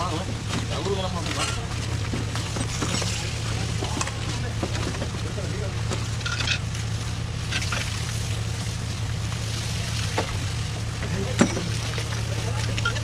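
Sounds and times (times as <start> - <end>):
pump engine droning: 0.0 - 13.0.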